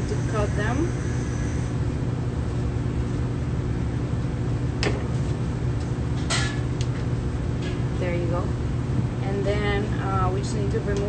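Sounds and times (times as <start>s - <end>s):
kitchen machinery hum: 0.0s - 11.0s.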